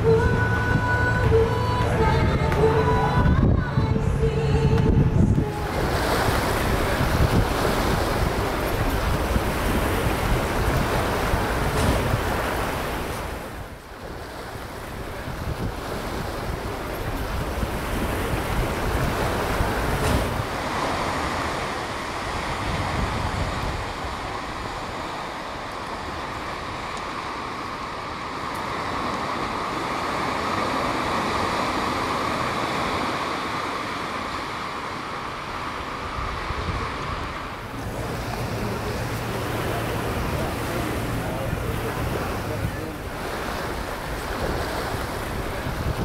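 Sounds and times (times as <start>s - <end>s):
wind buffeting microphone: 0.0s - 27.3s, 36.0s - 46.0s
sea surf washing on shore: 0.0s - 46.0s.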